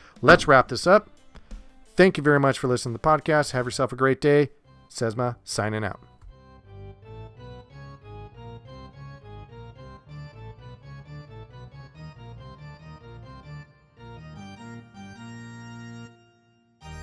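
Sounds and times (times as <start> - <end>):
organ-like keyboard tune: 0.0 - 17.0.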